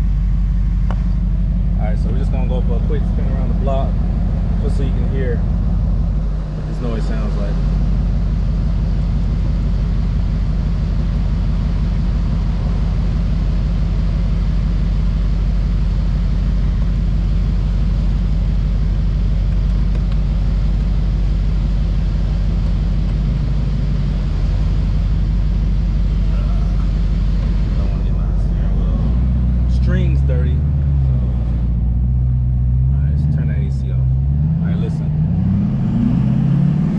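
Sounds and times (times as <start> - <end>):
diesel truck engine droning: 0.0 - 36.9.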